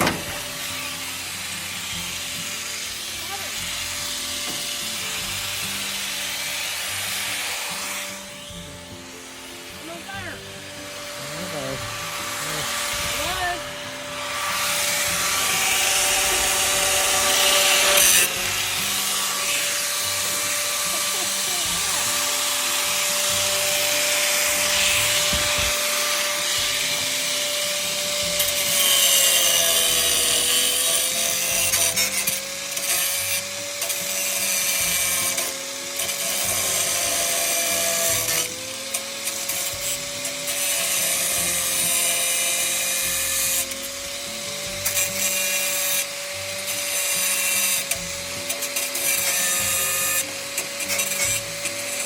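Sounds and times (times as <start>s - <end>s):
power tool motor whine: 0.0s - 52.0s
rasping cutting noise: 0.0s - 52.0s.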